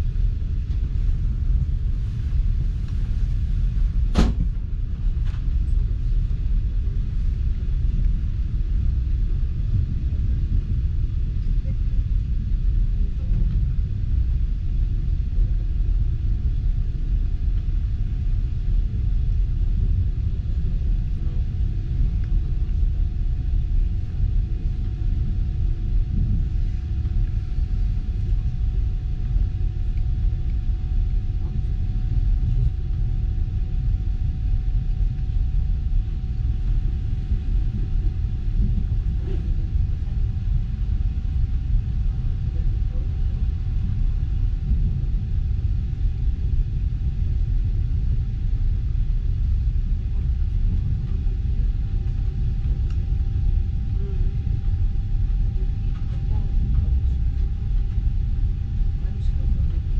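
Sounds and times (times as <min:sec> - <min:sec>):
faint steady whine: 0:00.0 - 0:59.9.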